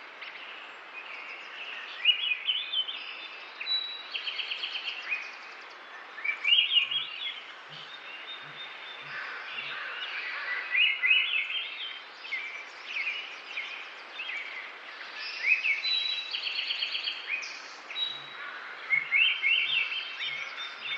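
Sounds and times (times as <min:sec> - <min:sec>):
birds chirping and singing: 0:00.3 - 0:20.9.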